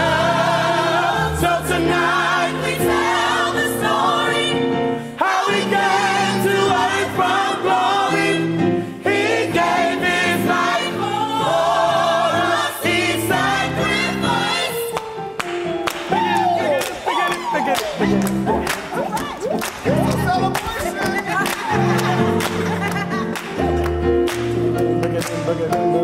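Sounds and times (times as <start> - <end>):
gospel choir singing: 0.0 - 16.8, 19.9 - 24.8.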